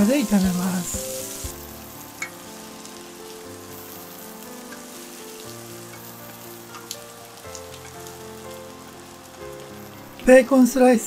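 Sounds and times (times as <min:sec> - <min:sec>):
onions sizzling in oil: 0:00.0 - 0:11.0
soft background music: 0:00.0 - 0:11.0.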